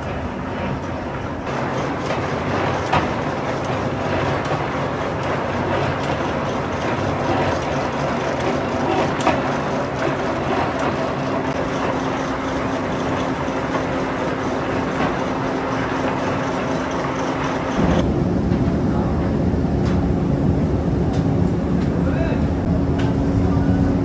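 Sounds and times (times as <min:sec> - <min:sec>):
ball mill drum rumbling: 0:00.0 - 0:20.2.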